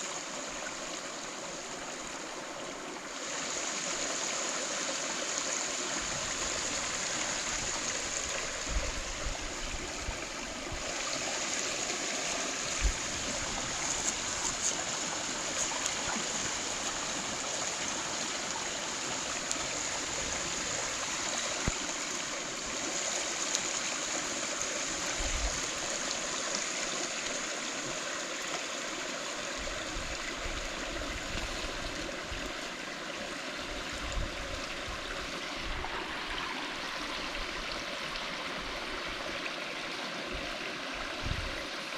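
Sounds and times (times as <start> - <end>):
stream rushing water: 0.0 - 41.9.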